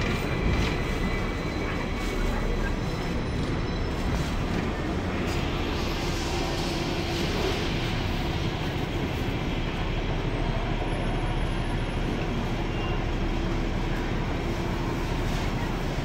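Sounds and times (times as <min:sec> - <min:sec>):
low rumble of street traffic: 0:00.0 - 0:16.0.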